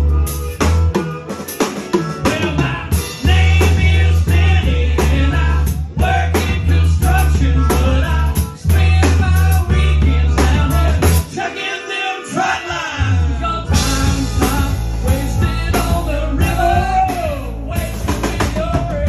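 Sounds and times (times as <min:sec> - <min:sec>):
rock band playing: 0:00.0 - 0:19.0
man singing: 0:02.0 - 0:19.0.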